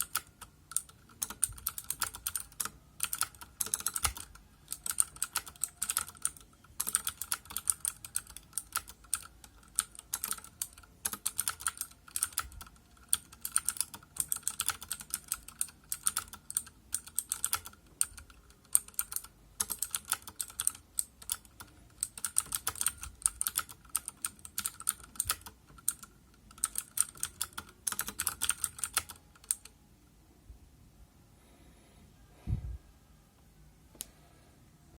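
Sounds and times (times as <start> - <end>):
typing on clicky mechanical keyboard: 0.0 - 29.8.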